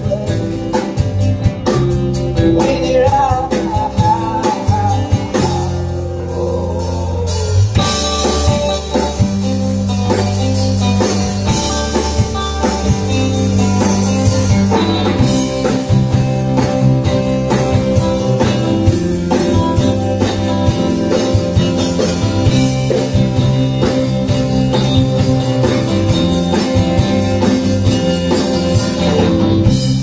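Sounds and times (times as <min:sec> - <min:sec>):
bass guitar: 0:00.0 - 0:30.0
drum kit beat: 0:00.0 - 0:30.0
electric guitar: 0:00.0 - 0:30.0.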